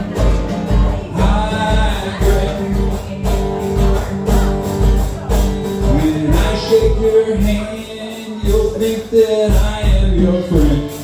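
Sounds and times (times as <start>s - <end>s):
acoustic guitar strumming chords: 0.0s - 11.0s
steady drum beat: 0.0s - 11.0s.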